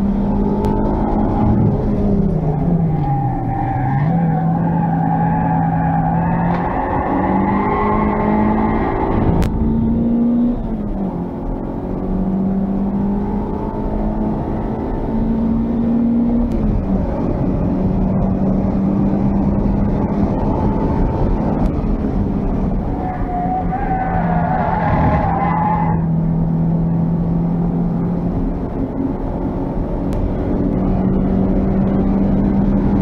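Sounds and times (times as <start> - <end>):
car engine revving: 0.0 - 33.0
road and tyre noise: 0.0 - 33.0.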